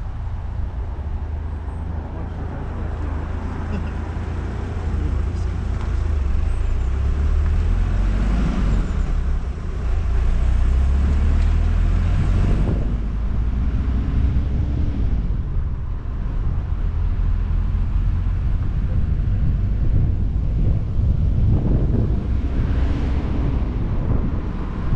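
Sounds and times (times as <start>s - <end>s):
tyre and road noise: 0.0s - 24.9s
wind rumble on microphone: 0.0s - 24.9s.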